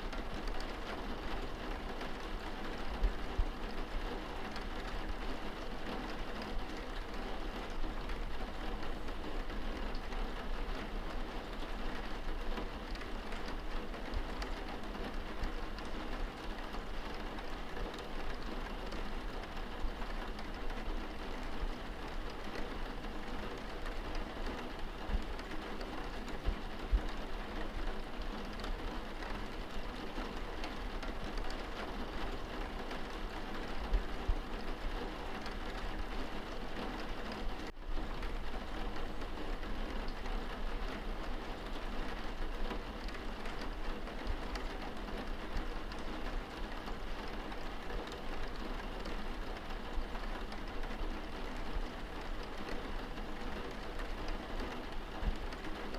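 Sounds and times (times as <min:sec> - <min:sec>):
rain on window glass: 0:00.0 - 0:55.9.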